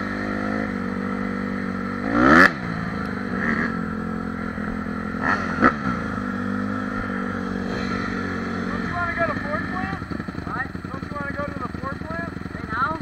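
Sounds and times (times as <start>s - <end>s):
off-road engine running and revving: 0.0s - 13.0s.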